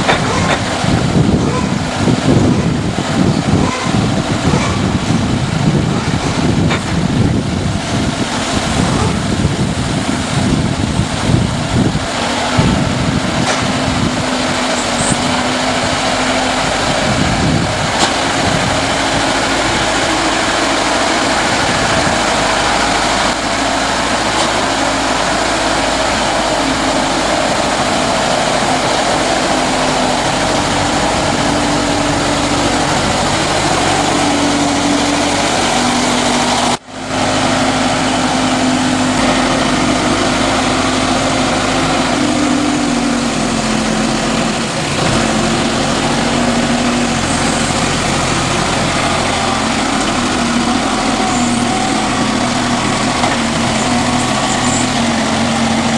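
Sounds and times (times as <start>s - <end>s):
lift truck engine running: 0.0s - 55.9s.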